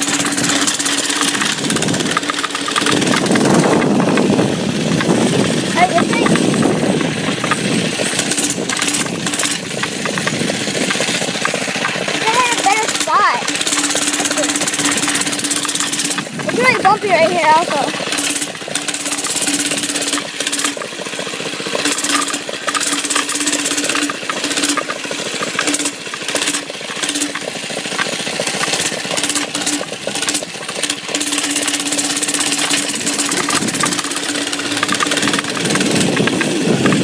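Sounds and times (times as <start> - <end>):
knocks and rattles from bumps: 0.0 - 37.0
mini bike engine running: 0.0 - 37.0.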